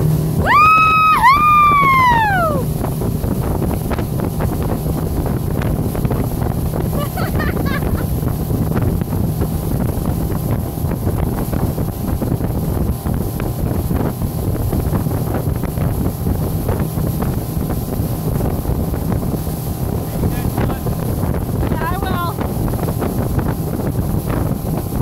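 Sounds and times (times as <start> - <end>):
motorboat engine running: 0.0 - 25.0
rush of boat wake: 0.0 - 25.0
wind buffeting microphone: 0.0 - 25.0.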